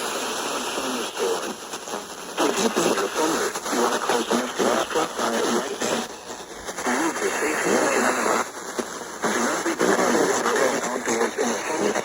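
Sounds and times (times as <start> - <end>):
radio static hiss: 0.0 - 12.0
voice through radio noise: 0.4 - 1.6, 2.4 - 12.0.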